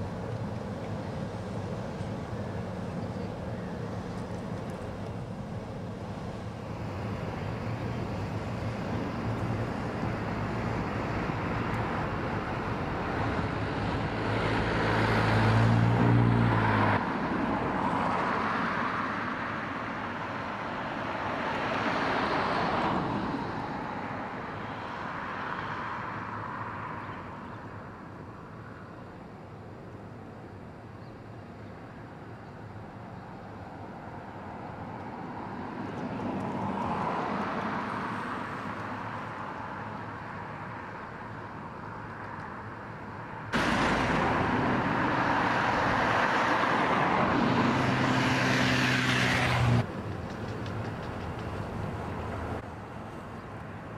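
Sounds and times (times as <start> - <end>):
low engine hum: 0.0 - 18.9, 27.3 - 53.9
vehicles passing: 0.0 - 53.9.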